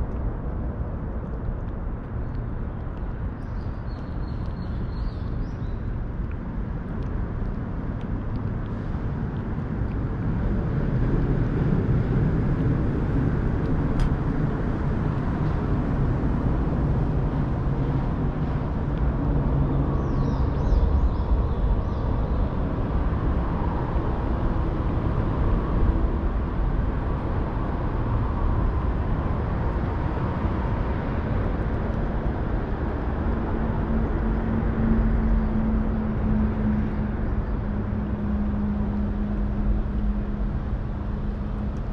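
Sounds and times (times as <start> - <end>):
low rumble of motor traffic: 0.0 - 41.9.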